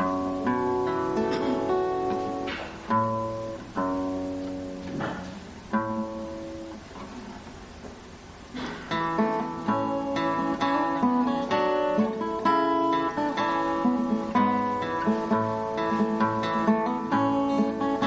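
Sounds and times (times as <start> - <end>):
acoustic string chords strummed: 0.0 - 18.0.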